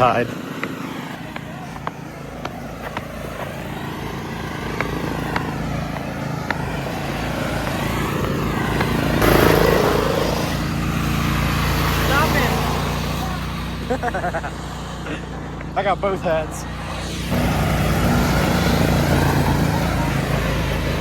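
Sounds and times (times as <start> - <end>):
lawn mower engine running: 0.0 - 21.0
noisy rush: 0.0 - 21.0.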